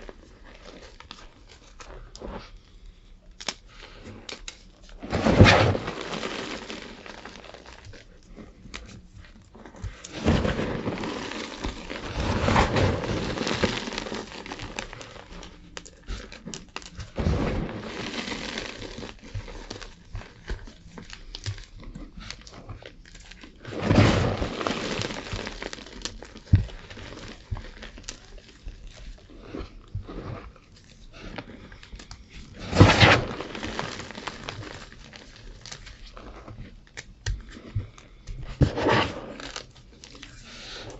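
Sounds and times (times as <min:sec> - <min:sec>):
chalk crunching: 0:00.0 - 0:40.9.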